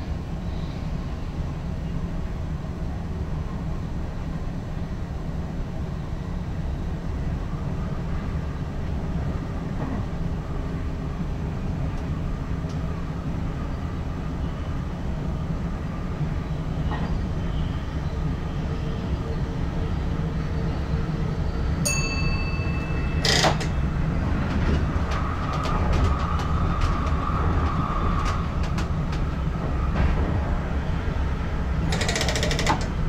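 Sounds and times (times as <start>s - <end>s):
electric train rumbling: 0.0s - 33.0s.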